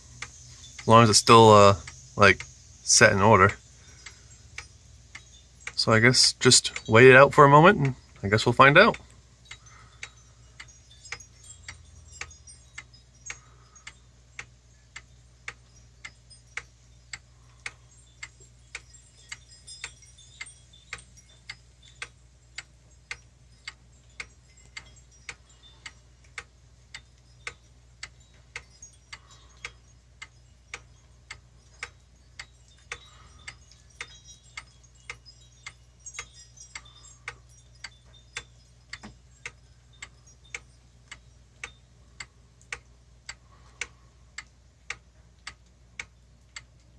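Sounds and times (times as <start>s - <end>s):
pendulum clock ticking: 0.0s - 46.9s.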